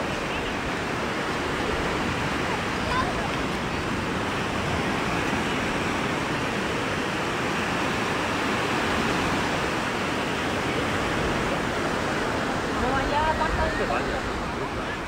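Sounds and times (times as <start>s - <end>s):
sea surf rushing: 0.0s - 15.0s.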